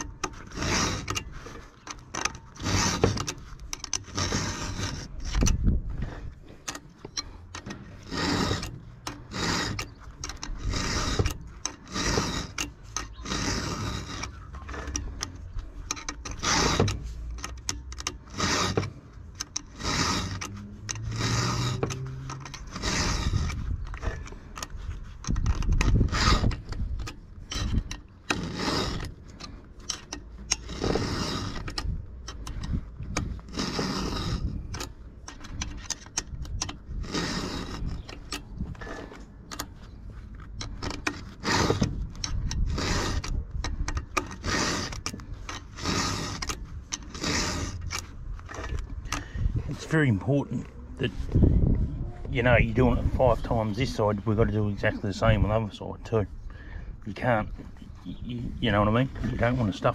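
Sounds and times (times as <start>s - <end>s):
round file rasping on chainsaw chain: 0.0s - 59.9s.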